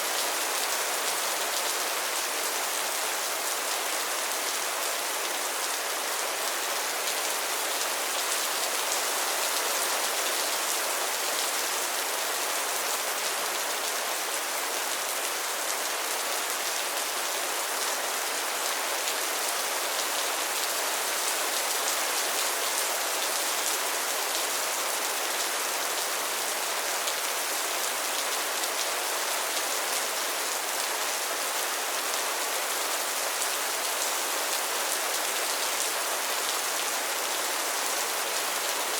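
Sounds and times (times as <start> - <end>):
rain downpour: 0.0 - 38.9.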